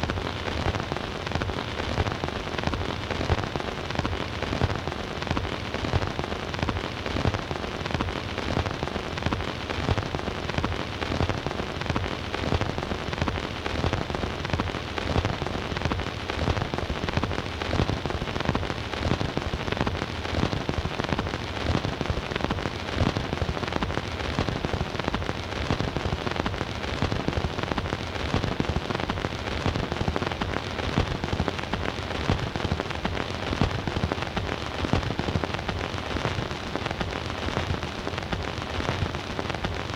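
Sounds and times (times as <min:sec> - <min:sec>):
record crackle: 0:00.0 - 0:39.9
record hiss: 0:00.0 - 0:39.9.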